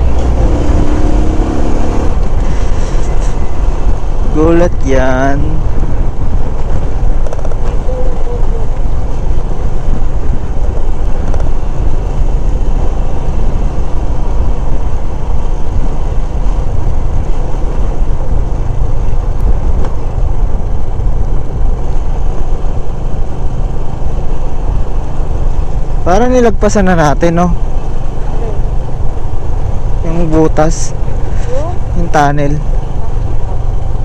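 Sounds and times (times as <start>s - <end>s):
motorcycle engine running: 0.0s - 34.0s
wind rushing on microphone: 0.0s - 34.0s.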